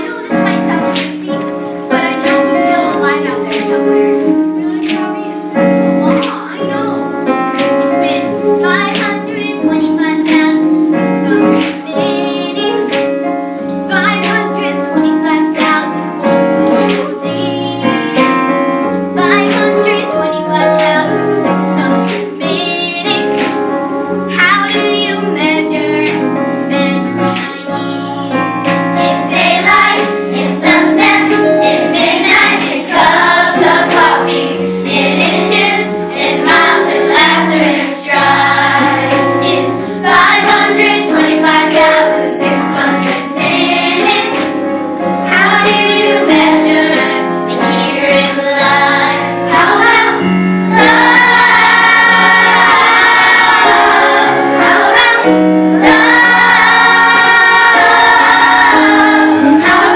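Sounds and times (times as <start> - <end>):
children singing: 0.0 - 13.2, 19.2 - 59.9
instrumental accompaniment: 0.0 - 59.9.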